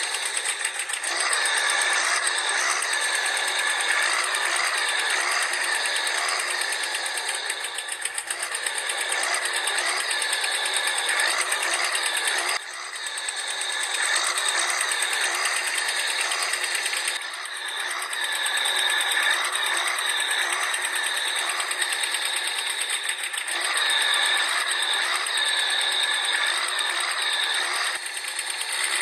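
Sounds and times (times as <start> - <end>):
toy tractor motors whirring: 0.0 - 29.0.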